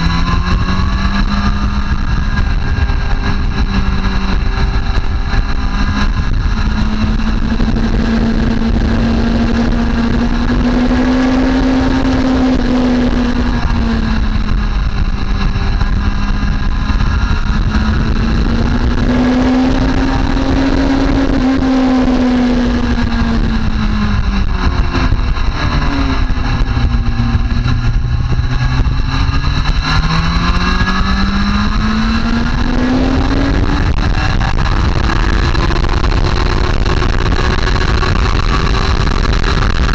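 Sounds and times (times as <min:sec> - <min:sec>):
motorcycle engine at speed: 0:00.0 - 0:39.9
wind noise: 0:00.0 - 0:39.9.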